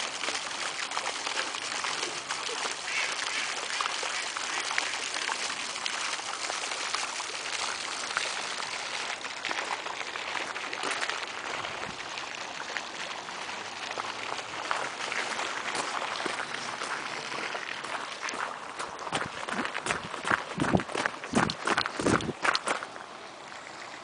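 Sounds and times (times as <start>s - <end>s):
rain falling: 0.0s - 23.2s.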